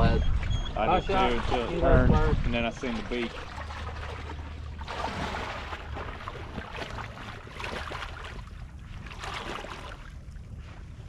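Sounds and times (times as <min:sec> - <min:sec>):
water sloshing and splashing: 0:00.2 - 0:11.0.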